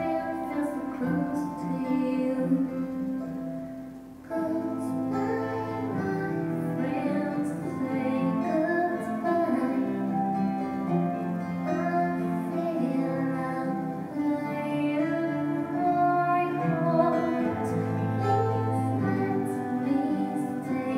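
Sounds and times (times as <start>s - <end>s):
woman singing: 0.0s - 3.4s, 4.3s - 20.9s
cello: 0.0s - 20.9s
guitar: 0.0s - 20.9s.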